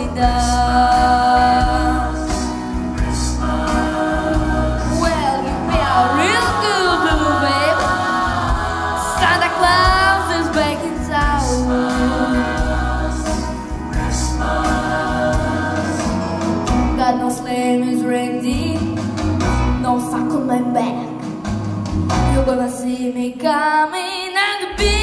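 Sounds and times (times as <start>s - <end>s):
bluesy rock and roll instrumental: 0.0s - 17.2s, 18.8s - 22.5s.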